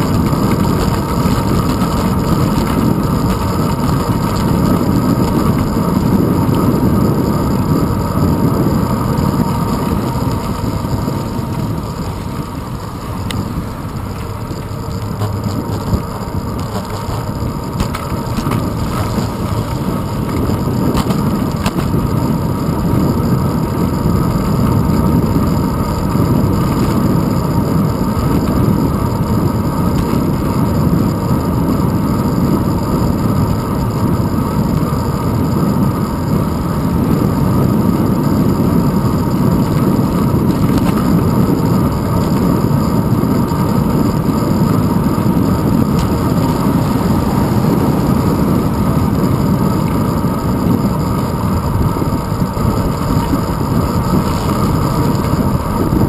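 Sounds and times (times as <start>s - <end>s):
bicycle road vibration: 0.0s - 56.0s
wind rumble on microphone: 0.0s - 56.0s.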